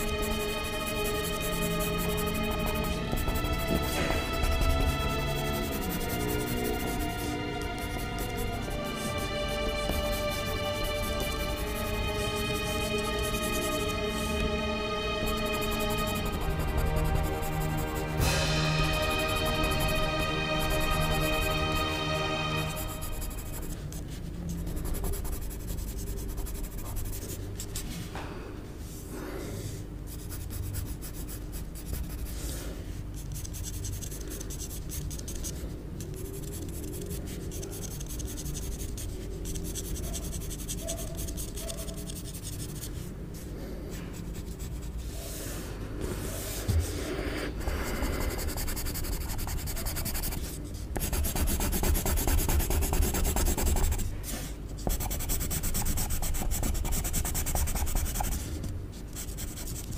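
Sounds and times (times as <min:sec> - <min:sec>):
pencil scratching on paper: 0:00.0 - 0:14.5, 0:15.2 - 0:28.0, 0:30.1 - 0:59.9.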